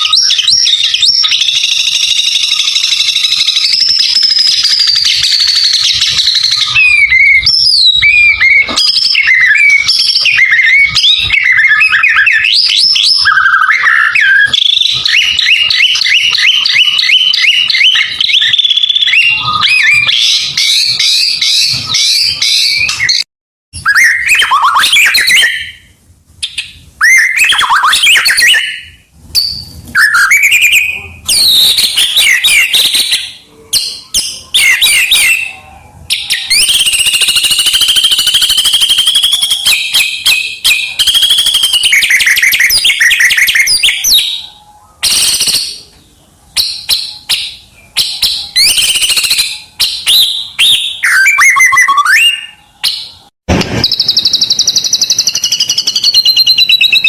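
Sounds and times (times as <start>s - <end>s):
bird singing whistled phrases: 0.0s - 57.0s.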